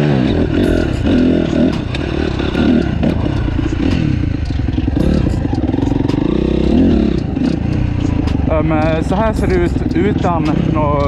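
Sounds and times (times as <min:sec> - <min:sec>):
dirt bike engine revving: 0:00.0 - 0:11.0
gravel clattering under tyres: 0:00.3 - 0:11.0.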